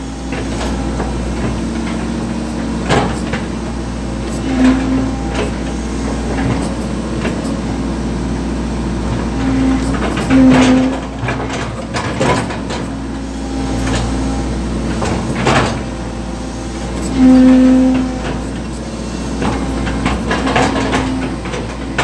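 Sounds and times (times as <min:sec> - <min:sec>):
excavator engine running: 0:00.0 - 0:22.0
hydraulic whine: 0:00.0 - 0:22.0.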